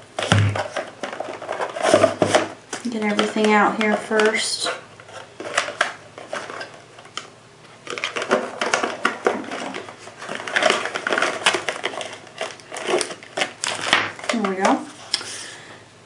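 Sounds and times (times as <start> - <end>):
cardboard and paper rustling: 0.2 - 7.2, 7.8 - 15.1.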